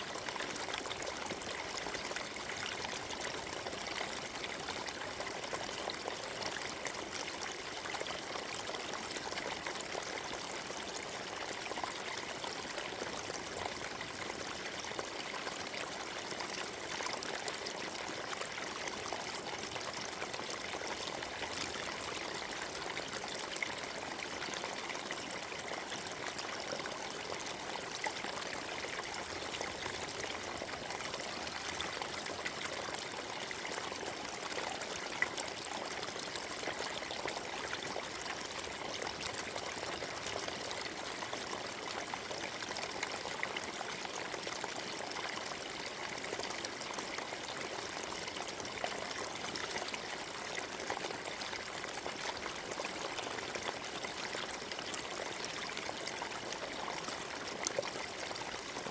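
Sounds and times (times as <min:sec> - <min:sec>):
stream babbling over stones: 0:00.0 - 0:58.9.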